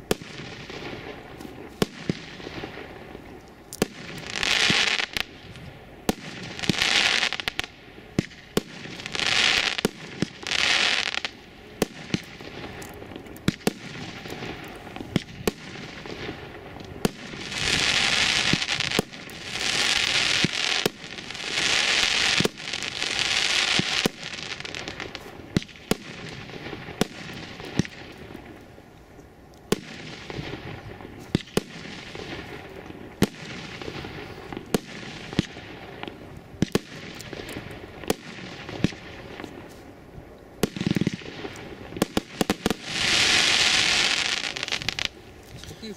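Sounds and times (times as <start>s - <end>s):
firework crackling: 0.0s - 45.9s.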